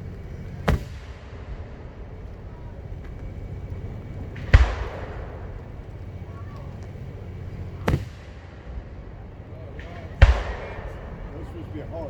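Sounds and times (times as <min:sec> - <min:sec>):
firework bursting with echo: 0:00.0 - 0:12.0.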